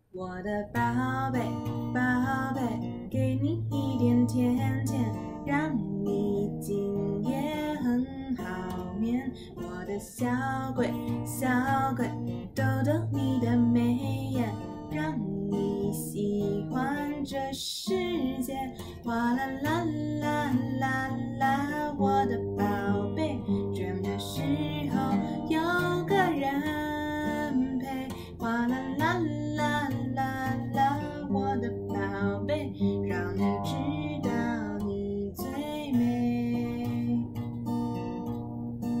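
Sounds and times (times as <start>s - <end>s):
woman singing wordless melody: 0.0s - 37.7s
acoustic guitar strumming: 0.8s - 39.0s.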